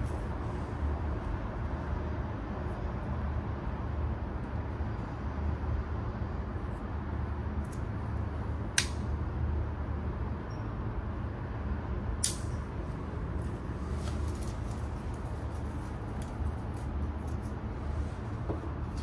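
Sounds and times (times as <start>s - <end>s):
low city rumble: 0.0s - 19.0s.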